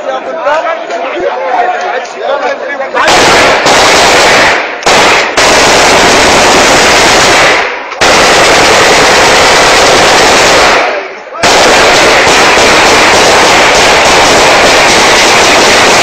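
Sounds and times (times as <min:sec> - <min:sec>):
automatic gunfire bursts: 0:03.1 - 0:16.0.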